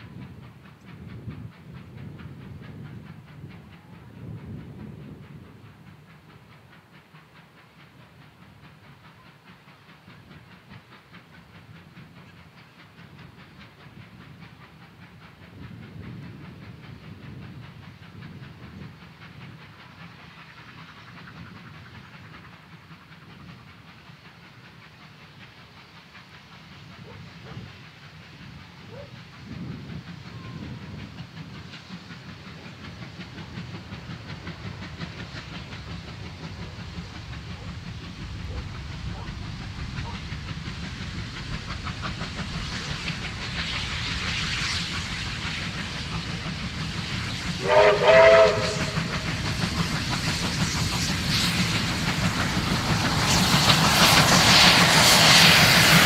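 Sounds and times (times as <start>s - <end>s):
steam locomotive exhaust beating: 0.0s - 56.0s
train wheels on rails: 0.0s - 56.0s.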